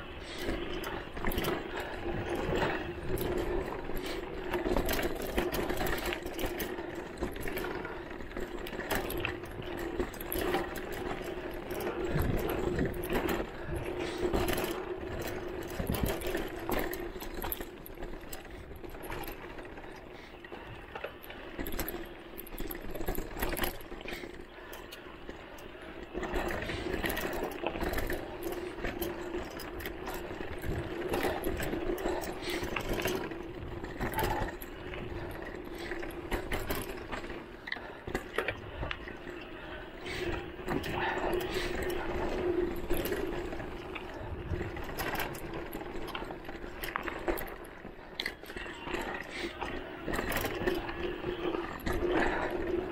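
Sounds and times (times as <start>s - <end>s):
bike rattling and knocking: 0.0s - 52.9s.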